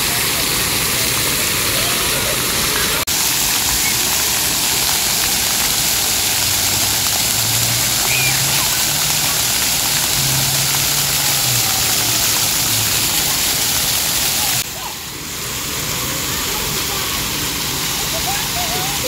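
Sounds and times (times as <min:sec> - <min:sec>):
fountain water splashing on concrete: 0:00.0 - 0:19.0.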